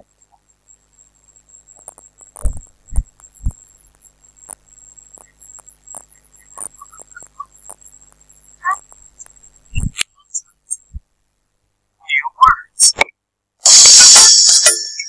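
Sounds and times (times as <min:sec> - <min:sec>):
faint high-pitched electrical whine: 0:00.0 - 0:15.0.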